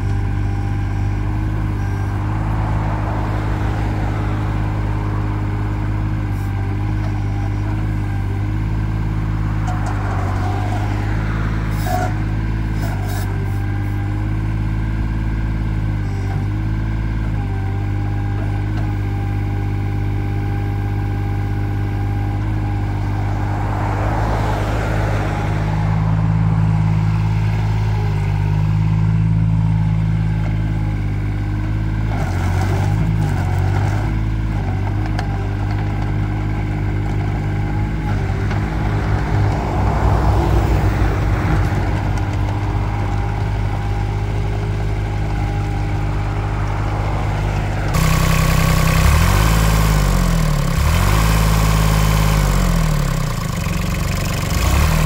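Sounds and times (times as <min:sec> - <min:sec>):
mini excavator diesel engine: 0:00.0 - 0:55.0.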